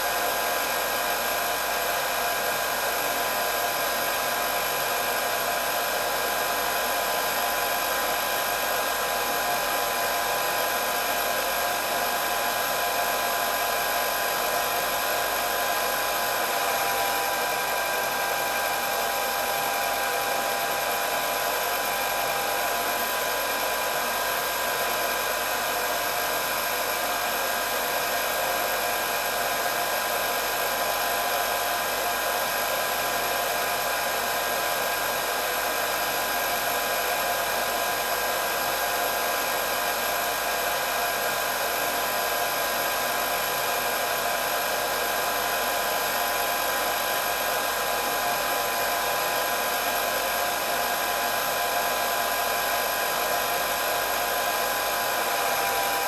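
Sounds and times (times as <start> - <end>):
hair dryer blowing with motor whine: 0.0 - 56.0.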